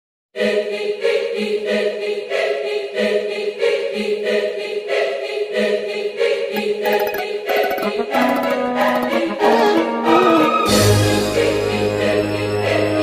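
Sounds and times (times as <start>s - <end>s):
choir-like voices singing: 0.4s - 13.0s.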